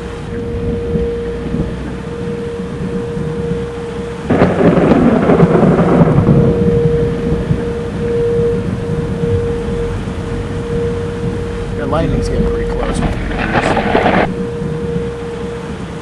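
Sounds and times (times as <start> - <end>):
steady hum: 0.0 - 16.0
storm noise: 0.0 - 16.0
thunderclap rolling into rumble: 0.3 - 15.1.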